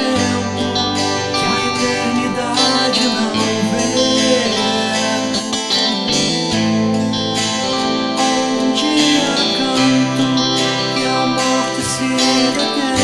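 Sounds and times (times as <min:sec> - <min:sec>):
guitar-led band song: 0:00.0 - 0:13.0.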